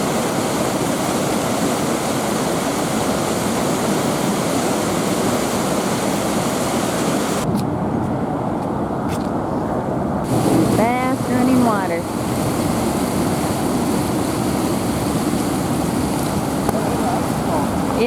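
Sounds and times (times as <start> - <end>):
small waterfall rushing: 0.0 - 7.4, 10.3 - 18.0.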